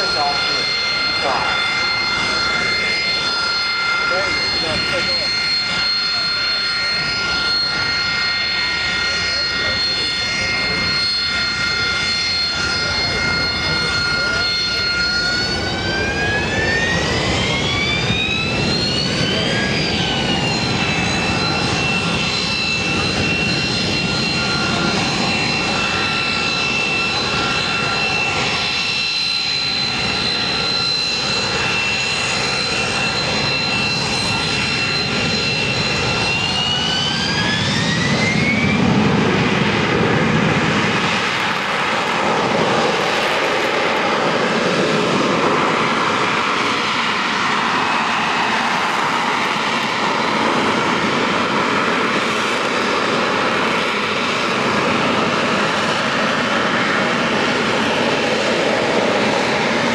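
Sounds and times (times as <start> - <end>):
jet engine roar and whine: 0.0 - 59.9.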